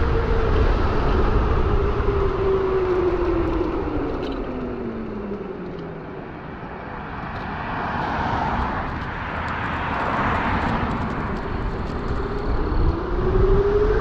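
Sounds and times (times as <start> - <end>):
electric motor whine: 0.0 - 6.6, 8.8 - 14.0
wind and tyre noise: 0.0 - 14.0.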